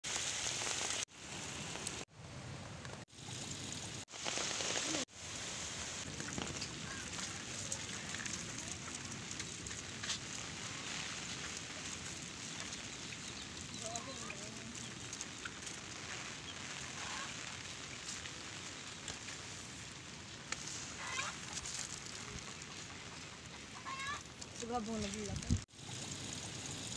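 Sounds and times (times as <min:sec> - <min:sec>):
heavy rain falling: 0:00.0 - 0:02.1, 0:03.0 - 0:26.9.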